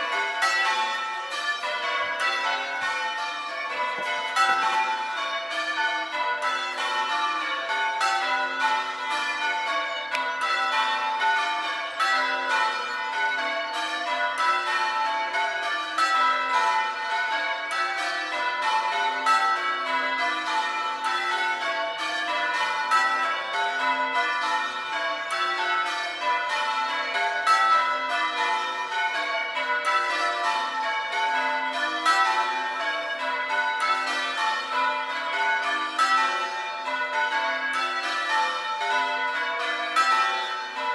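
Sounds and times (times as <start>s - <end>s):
church bells ringing changes: 0.0s - 40.9s.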